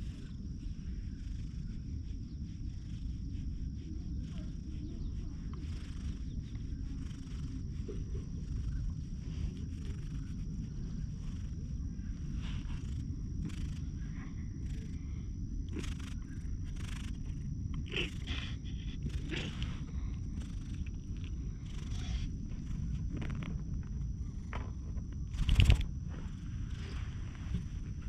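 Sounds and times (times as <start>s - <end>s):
cat purring: 0.0s - 28.0s.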